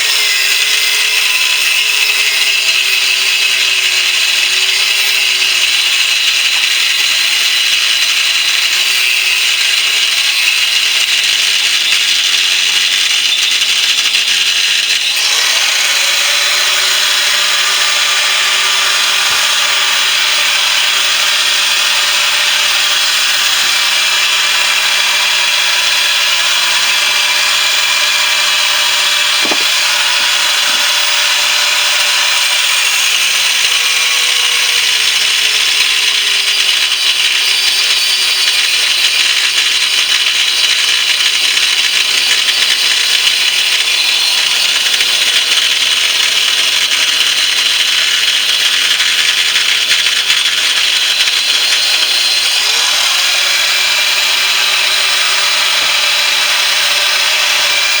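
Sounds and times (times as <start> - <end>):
power tool cutting steel: 0.0 - 58.0.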